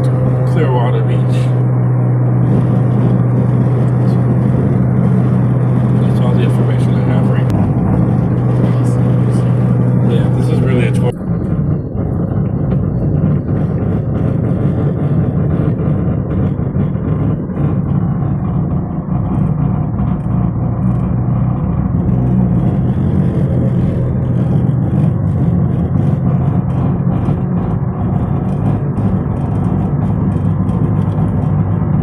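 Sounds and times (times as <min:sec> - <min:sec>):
car engine: 0:00.0 - 0:32.0
road noise: 0:00.0 - 0:32.0.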